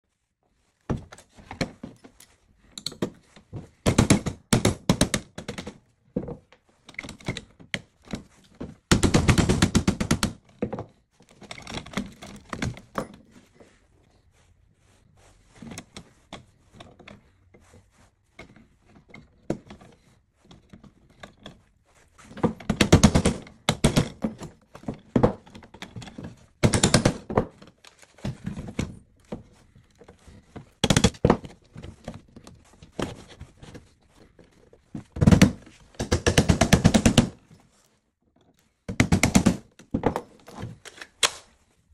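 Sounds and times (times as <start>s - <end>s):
parts clicking and clattering: 0.9s - 13.8s, 18.3s - 41.6s.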